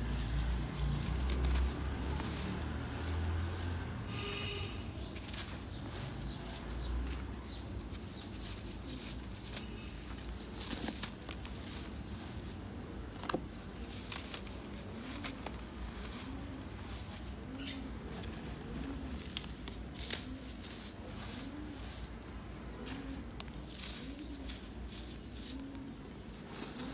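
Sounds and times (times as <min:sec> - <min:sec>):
dirt crunching in a hand: 0:00.0 - 0:26.9
dove cooing: 0:00.0 - 0:26.9.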